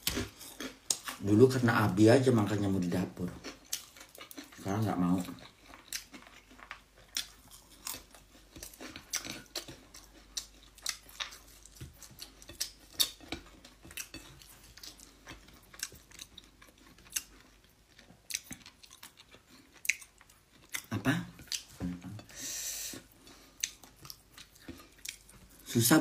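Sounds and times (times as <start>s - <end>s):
person chewing with mouth smacks: 3.3s - 25.7s.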